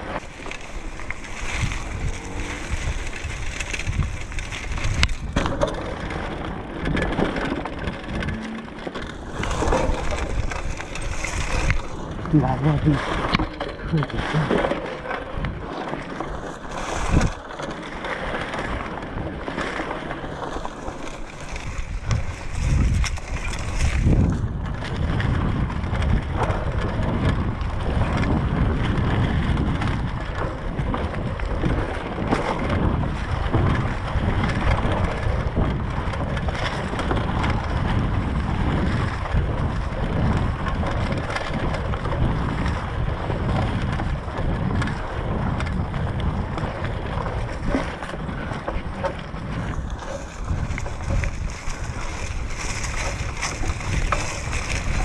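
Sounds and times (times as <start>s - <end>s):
bike rattling: 0.0s - 55.0s
bike tyres rolling over dry leaves: 0.0s - 55.0s
wind buffeting microphone: 0.0s - 55.0s.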